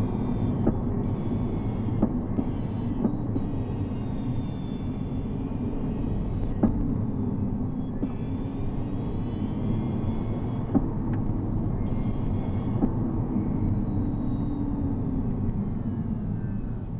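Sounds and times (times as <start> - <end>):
electric motor whine: 0.0 - 16.5
road rumble: 0.0 - 16.9.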